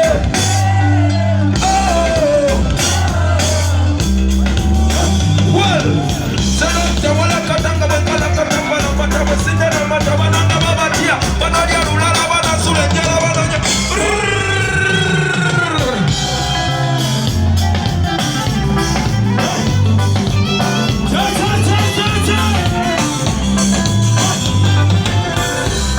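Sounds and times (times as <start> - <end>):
person singing: 0.0 - 23.4
band music over loudspeakers: 0.0 - 25.9.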